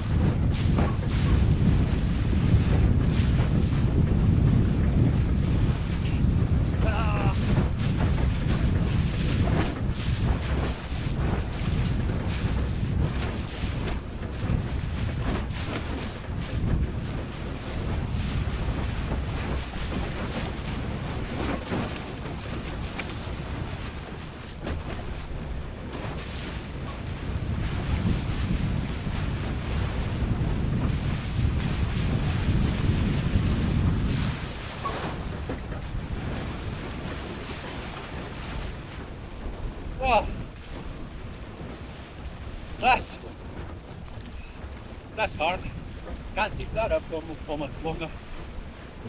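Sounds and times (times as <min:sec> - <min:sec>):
water rushing along a hull: 0:00.0 - 0:49.0
wind buffeting microphone: 0:00.0 - 0:49.0.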